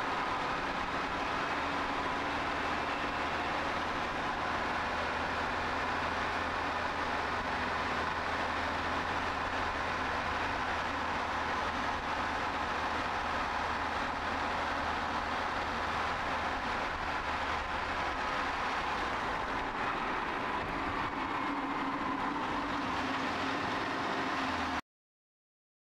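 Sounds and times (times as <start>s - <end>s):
car road and engine noise: 0.0s - 24.8s.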